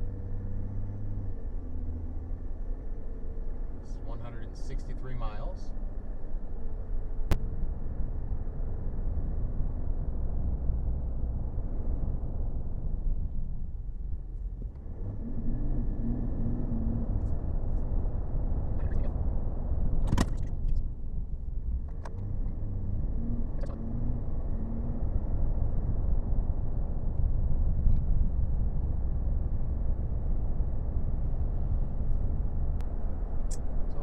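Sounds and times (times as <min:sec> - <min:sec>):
diesel engine rumble in cab: 0:00.0 - 0:34.0
road noise: 0:00.0 - 0:34.0.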